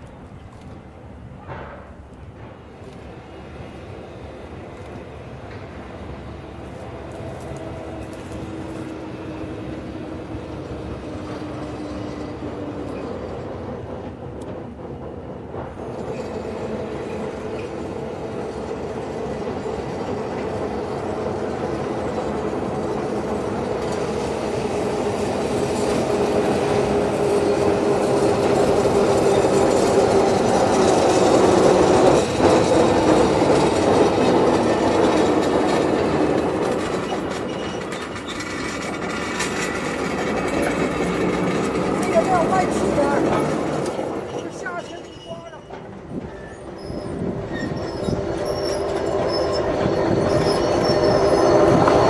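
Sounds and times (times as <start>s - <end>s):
electric locomotive whine: 0.0s - 52.0s
wagons rattling over track: 4.9s - 52.0s.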